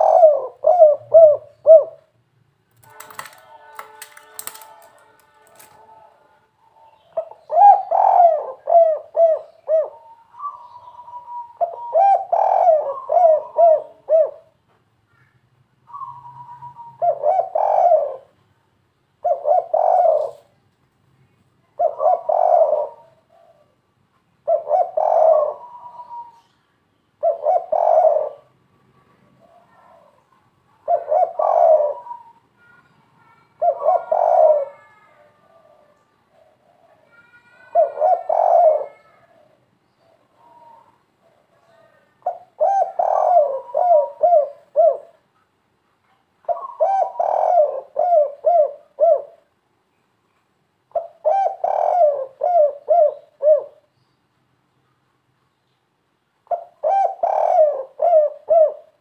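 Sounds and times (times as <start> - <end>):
dove cooing: 0.0 - 2.1, 2.9 - 14.6, 15.9 - 18.4, 19.2 - 20.6, 21.8 - 23.8, 24.4 - 26.5, 27.2 - 28.6, 29.3 - 45.3, 46.4 - 49.5, 50.9 - 53.9, 56.4 - 59.0.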